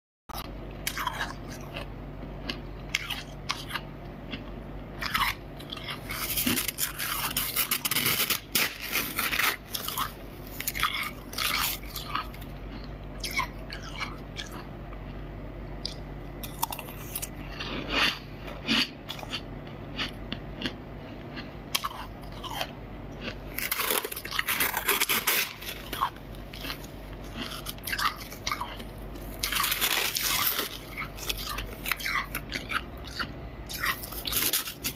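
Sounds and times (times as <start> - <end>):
steady low hum: 0.3 - 34.9
frost crunching while chewed: 0.4 - 34.9.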